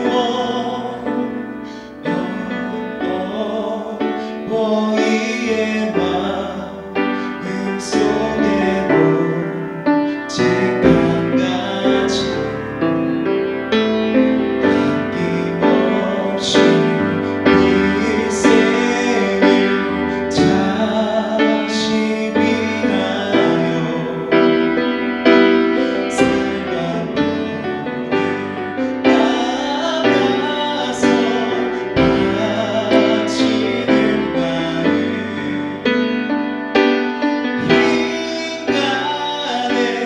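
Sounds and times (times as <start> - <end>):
piano playing slow chords: 0.0 - 40.0.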